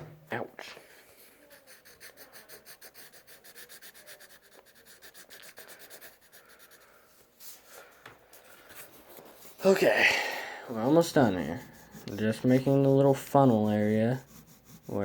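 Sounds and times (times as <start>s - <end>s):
pencil scribbling on paper: 1.1s - 7.6s, 8.4s - 9.9s, 10.7s - 15.0s.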